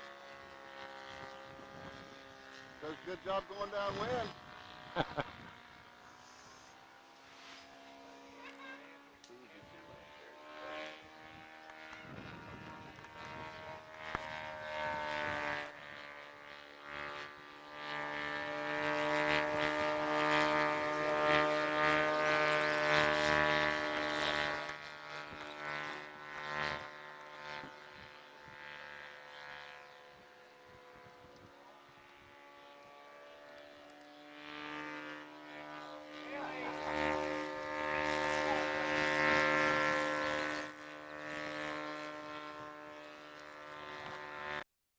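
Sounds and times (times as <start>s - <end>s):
model plane engine droning: 0.0s - 44.7s.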